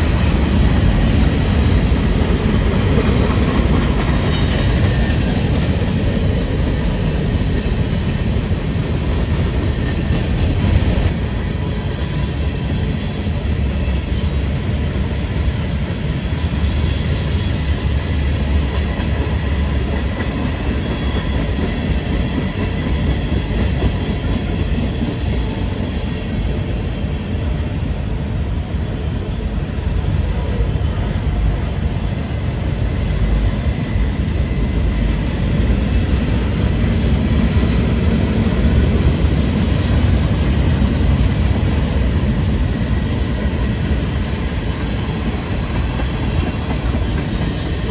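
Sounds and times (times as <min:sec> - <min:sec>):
freight train cars rolling: 0:00.0 - 0:47.9.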